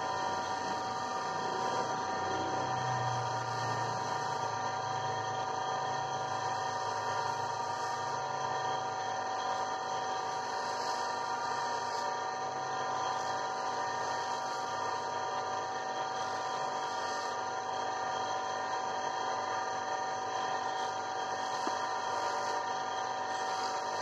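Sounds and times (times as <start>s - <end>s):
grinding machine motor whining: 0.0s - 24.0s.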